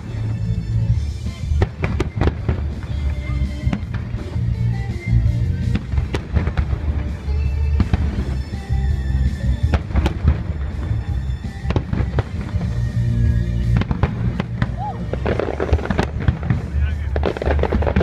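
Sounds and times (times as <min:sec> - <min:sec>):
fireworks bangs and crackling: 0:00.0 - 0:18.0
music with long held notes: 0:00.0 - 0:18.0.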